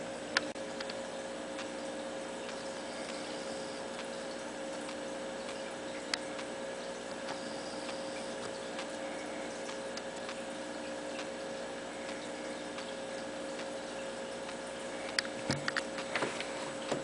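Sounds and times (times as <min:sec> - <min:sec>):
mechanical hum and hiss: 0:00.0 - 0:17.0
faint irregular ticks: 0:00.4 - 0:17.0.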